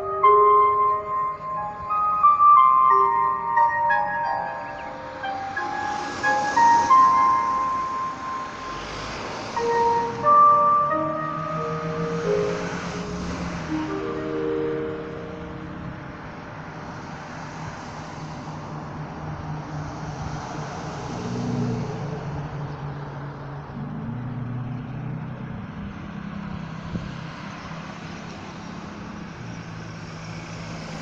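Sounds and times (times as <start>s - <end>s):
road traffic: 0.0s - 31.0s
vehicle engines passing: 0.0s - 31.0s.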